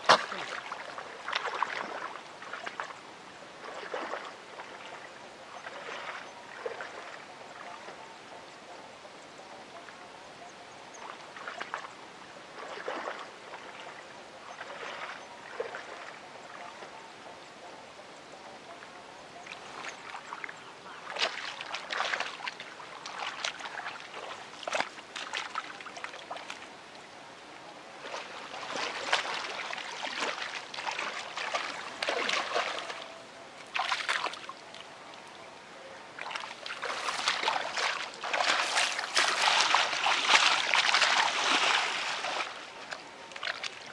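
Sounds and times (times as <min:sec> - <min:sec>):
muddy water sloshing and splashing: 0:00.0 - 0:08.0, 0:10.9 - 0:17.0, 0:19.4 - 0:27.0, 0:27.8 - 0:35.2, 0:36.1 - 0:43.9.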